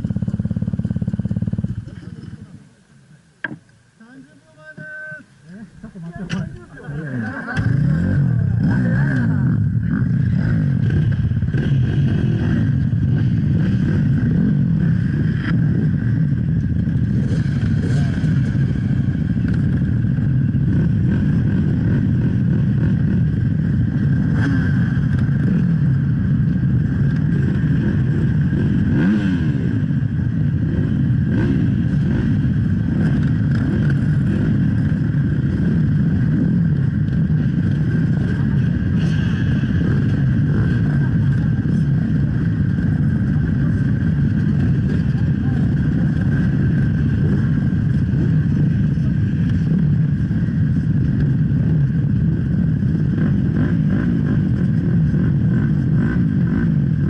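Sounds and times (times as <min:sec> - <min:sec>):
motorcycle engine revving: 0:00.0 - 0:02.6, 0:04.8 - 0:57.0.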